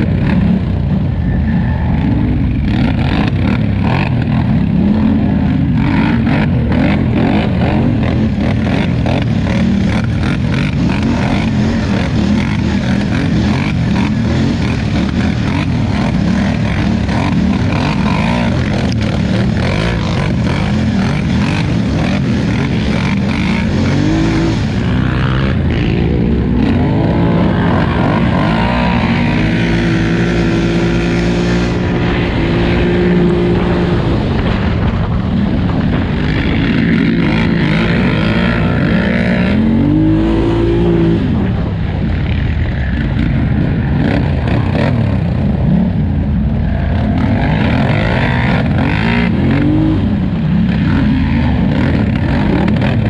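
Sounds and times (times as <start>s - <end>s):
atv engine running hard: 0.0s - 53.0s.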